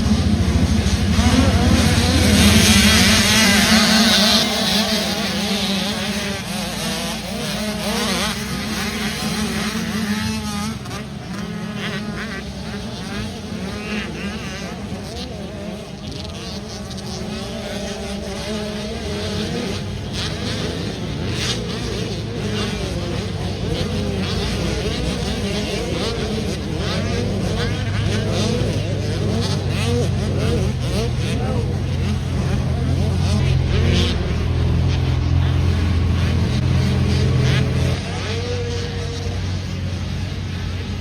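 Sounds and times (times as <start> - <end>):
dirt bike engines revving: 0.0 - 41.0.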